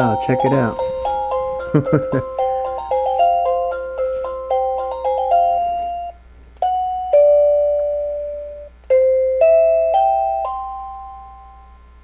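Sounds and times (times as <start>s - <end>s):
doorbell chime tune: 0.0s - 12.0s.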